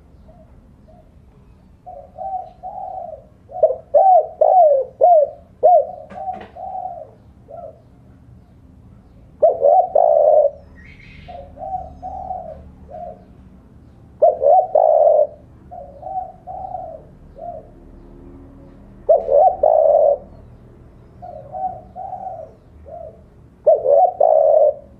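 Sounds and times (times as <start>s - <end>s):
dove cooing: 1.8s - 8.2s, 9.3s - 13.5s, 14.1s - 24.9s.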